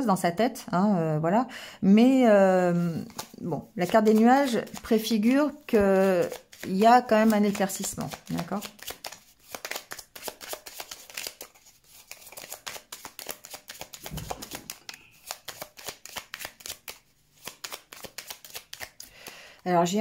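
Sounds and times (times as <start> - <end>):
cards being shuffled: 3.0 - 19.1.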